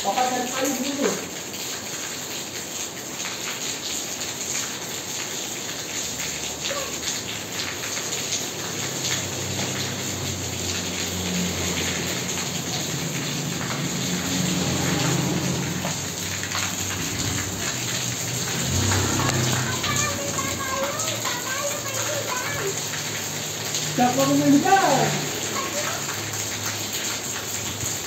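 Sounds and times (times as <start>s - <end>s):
deep rushing water: 0.0s - 28.0s
rain pattering on tiles: 0.0s - 28.0s.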